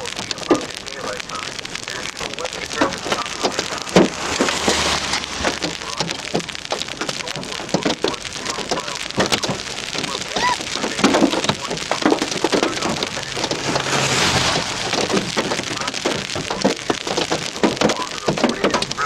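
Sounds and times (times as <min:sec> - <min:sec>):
hailstones pelting a car: 0:00.0 - 0:19.0.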